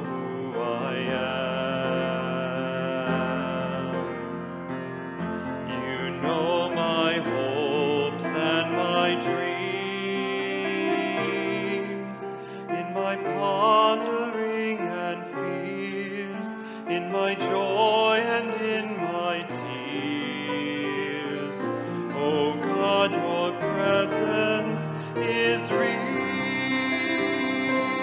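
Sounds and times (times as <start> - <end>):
instrumental hymn music: 0.0 - 28.0.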